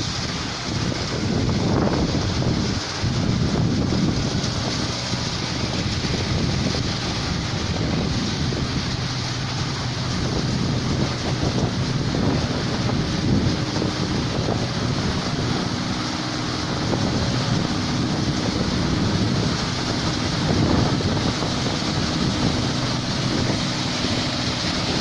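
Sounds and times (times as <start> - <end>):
combine harvester diesel engine: 0.0 - 25.0
rushing noise: 0.0 - 25.0.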